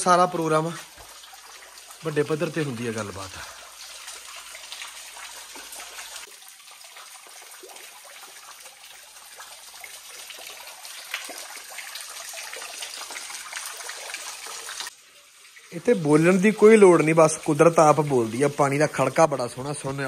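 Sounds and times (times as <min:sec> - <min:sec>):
water trickling over rocks: 0:00.0 - 0:20.0.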